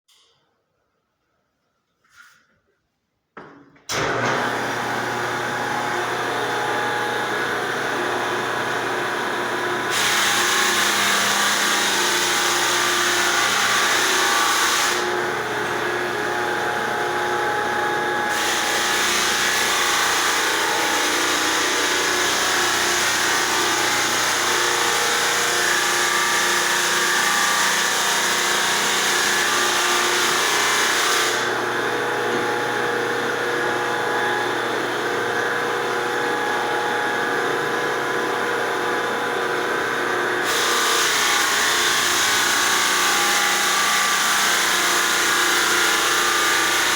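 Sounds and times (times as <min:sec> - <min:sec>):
floor sander motor humming: 0:03.9 - 0:46.9
sander grinding wood floor: 0:03.9 - 0:46.9.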